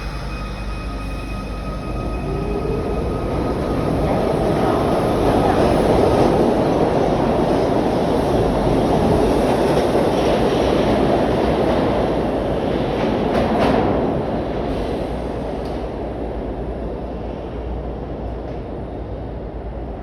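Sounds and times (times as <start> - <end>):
subway train wheels rumbling on rail: 0.0 - 20.0.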